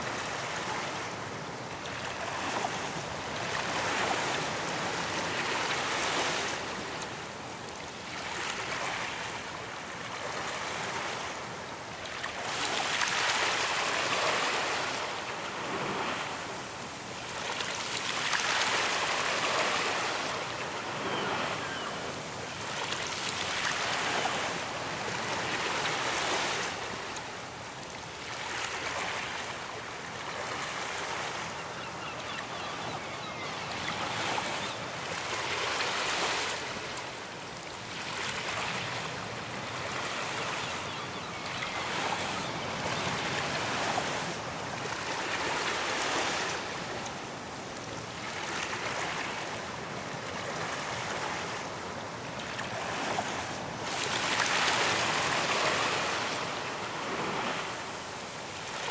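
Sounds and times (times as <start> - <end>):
ocean waves washing onto beach: 0.0 - 58.9.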